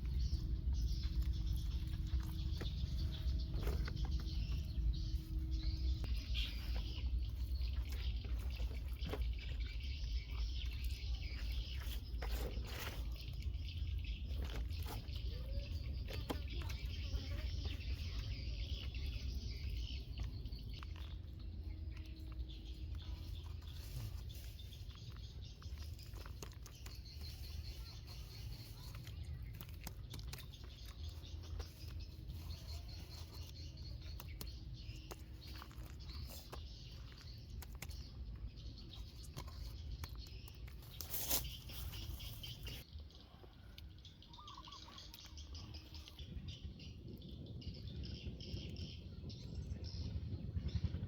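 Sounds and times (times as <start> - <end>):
small clicks and crackles: 0.0 - 42.9
birds chirping: 0.0 - 51.0
low steady rumble: 0.0 - 51.0.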